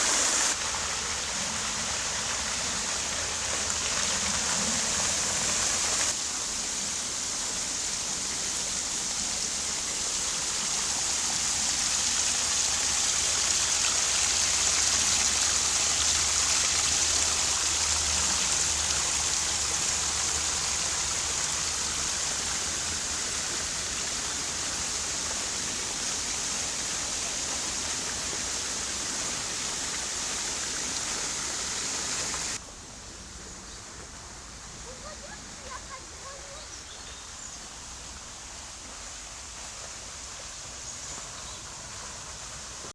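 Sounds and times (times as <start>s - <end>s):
fountain water splashing: 0.0s - 32.7s, 33.9s - 42.9s.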